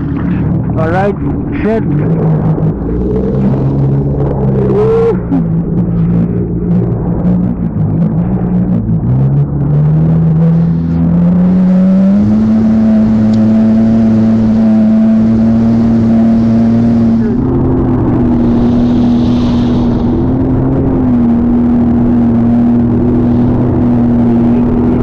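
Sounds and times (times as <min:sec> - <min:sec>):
engine running hard: 0:00.0 - 0:25.0.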